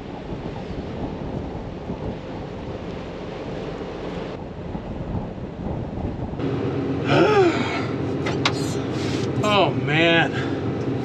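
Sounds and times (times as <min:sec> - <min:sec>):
tractor engine humming: 0:00.0 - 0:11.0
wind buffeting microphone: 0:00.0 - 0:11.0.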